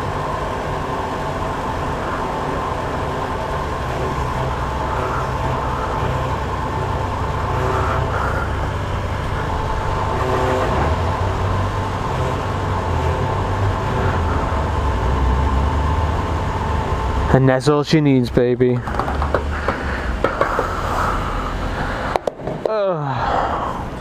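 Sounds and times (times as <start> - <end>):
constant hum: 0.0 - 24.0
low mechanical rumble: 0.0 - 24.0.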